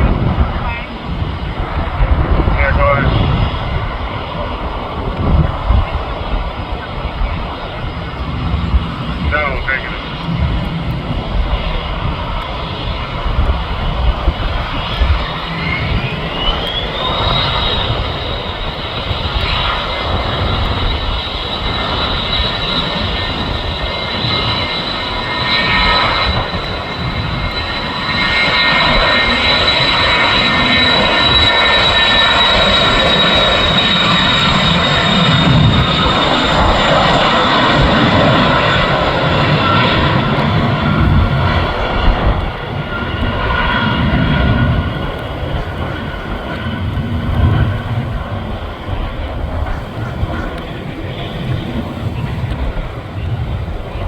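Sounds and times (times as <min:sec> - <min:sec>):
jet engines roaring with whine: 0:00.0 - 0:54.0.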